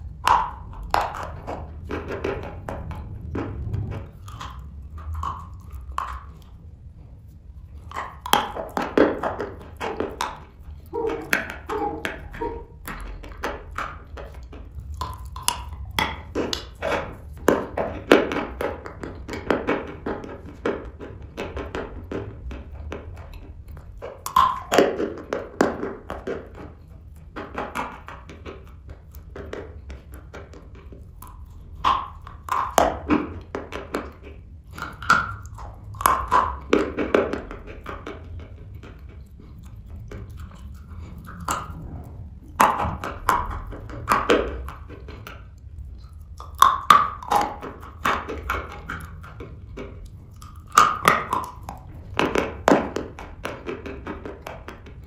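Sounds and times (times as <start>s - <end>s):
chalk crunching while chewed: 0.0s - 55.0s.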